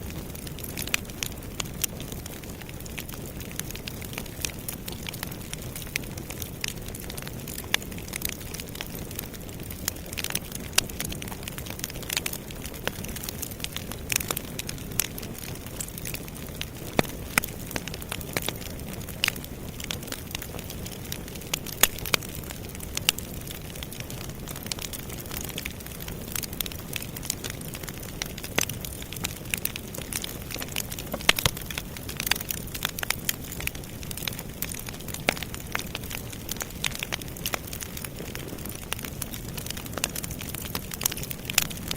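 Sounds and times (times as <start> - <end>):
campfire burning: 0.0 - 41.9
fire crackles and pops: 0.0 - 41.9.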